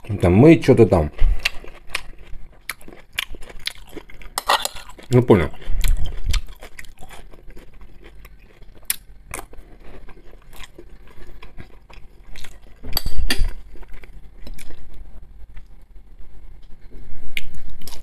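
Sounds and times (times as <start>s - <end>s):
chewing food: 1.0s - 15.9s.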